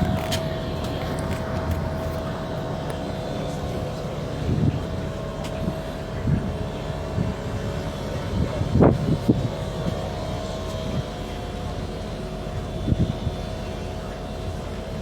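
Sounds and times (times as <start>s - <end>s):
ferry engine rumbling: 0.0s - 15.0s.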